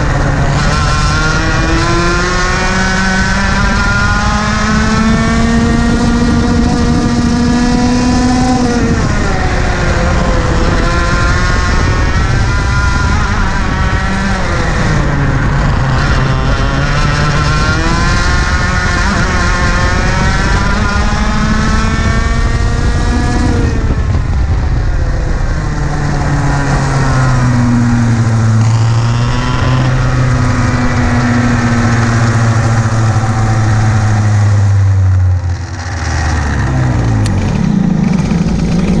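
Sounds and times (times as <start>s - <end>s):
kart engine revving: 0.0s - 39.0s.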